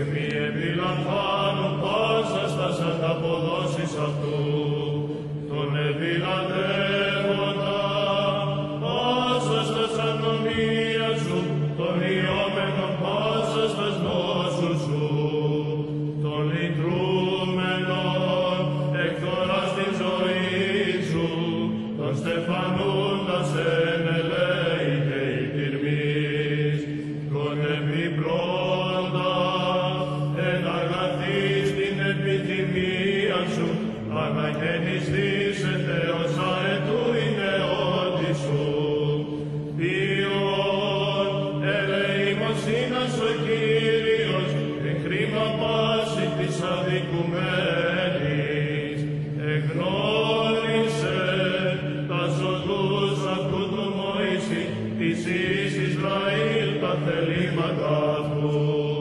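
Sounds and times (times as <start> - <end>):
religious chant singing: 0.0 - 59.0.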